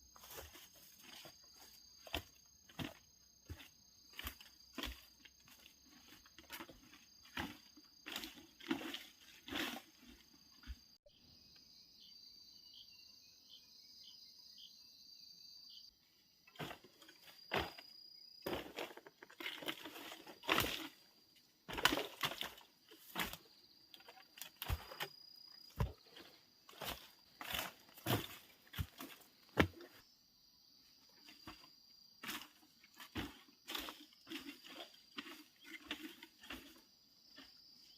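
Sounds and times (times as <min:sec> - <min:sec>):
crickets trilling: 0:00.0 - 0:37.9.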